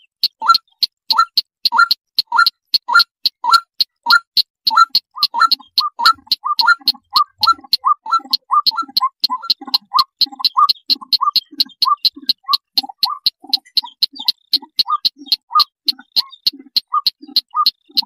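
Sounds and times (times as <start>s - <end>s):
bird call of sharp ticks: 0.0s - 18.0s.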